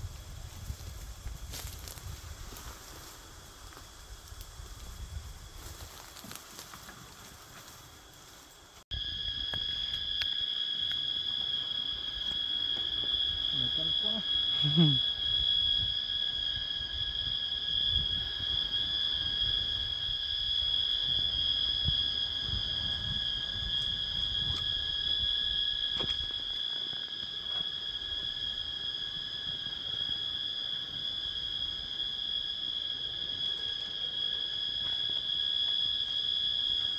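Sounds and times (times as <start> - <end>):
insects droning: 0.0 - 36.9.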